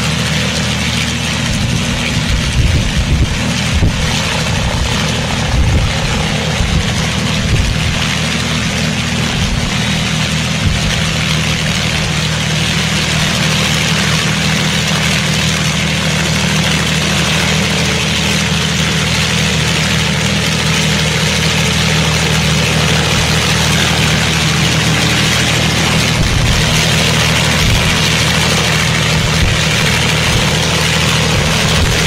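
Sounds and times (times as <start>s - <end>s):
multi-engine aircraft drone: 0.0s - 32.0s.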